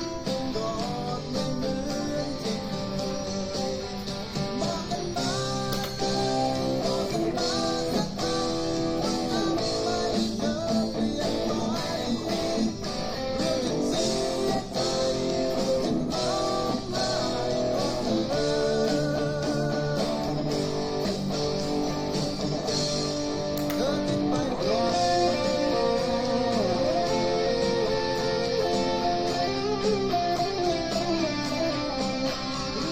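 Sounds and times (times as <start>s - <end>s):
electric guitar playing: 0.0s - 32.9s.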